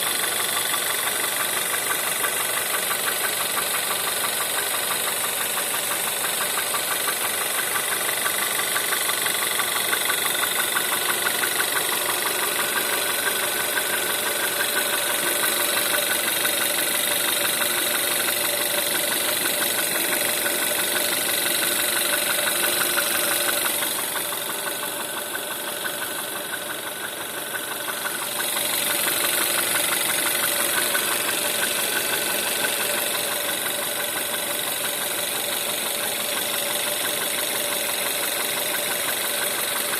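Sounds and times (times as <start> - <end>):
car engine idling: 0.0 - 39.9
rhythmic engine knock: 0.0 - 39.9.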